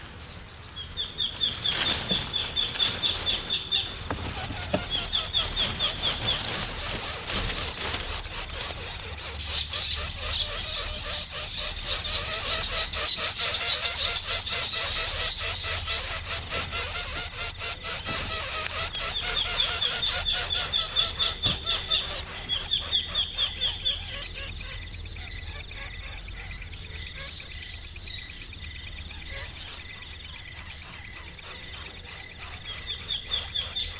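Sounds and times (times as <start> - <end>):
rapid bird chirps: 0.0 - 33.9.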